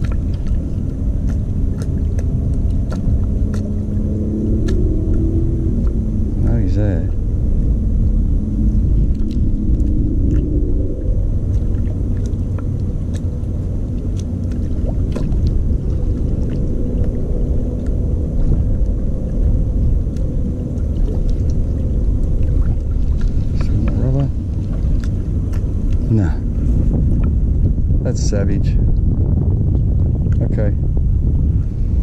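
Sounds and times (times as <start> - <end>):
low engine drone: 0.0 - 32.0.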